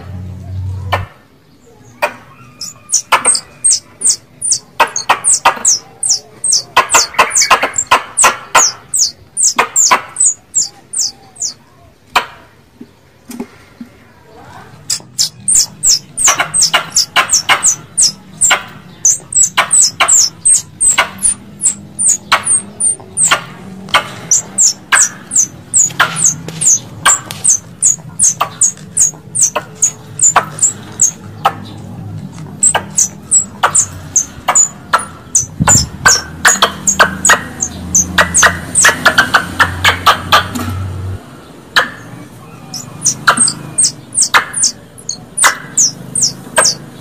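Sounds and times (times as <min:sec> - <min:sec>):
squirrel chirping: 0:01.9 - 0:11.6, 0:14.8 - 0:31.8, 0:32.5 - 0:40.5, 0:42.5 - 0:47.0.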